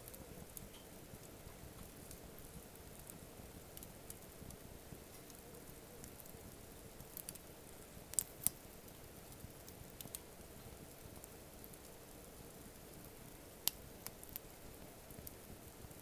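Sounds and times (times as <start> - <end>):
campfire crackling: 0.0 - 16.0
sharp fire snaps: 0.0 - 16.0.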